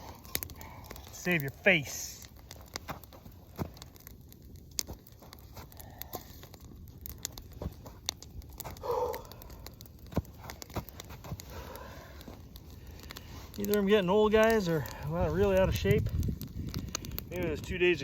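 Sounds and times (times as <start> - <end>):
sticks snapping and brush rustling: 0.0 - 17.3.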